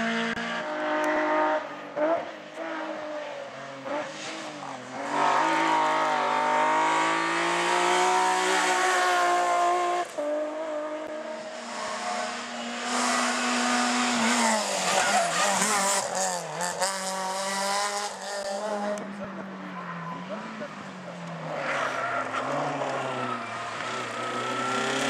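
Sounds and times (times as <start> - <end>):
rally car engine passing close: 0.0 - 25.0.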